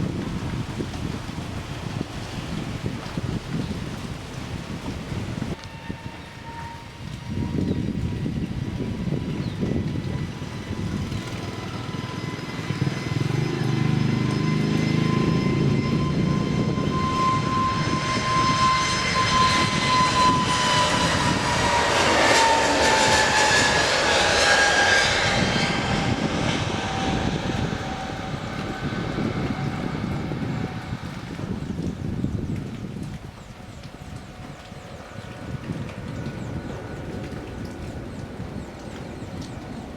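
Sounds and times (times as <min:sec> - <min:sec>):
jet engine whine dropping in pitch: 0:00.0 - 0:39.9
jet engines at takeoff: 0:00.0 - 0:39.9.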